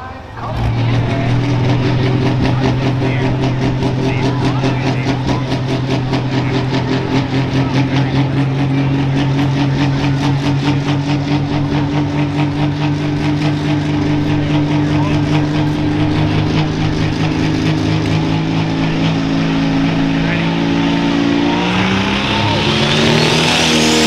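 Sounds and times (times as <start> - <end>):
tractor engine idling with lope: 0.0 - 24.0.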